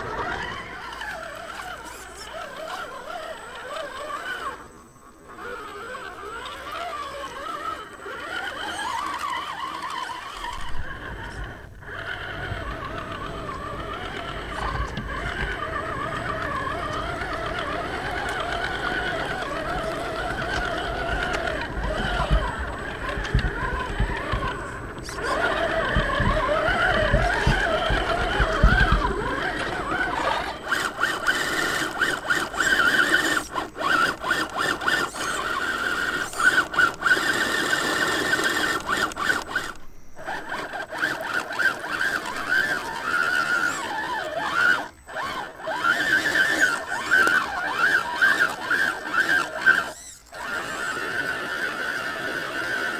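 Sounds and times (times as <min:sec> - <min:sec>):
electric motor whining: 0:00.0 - 0:52.9.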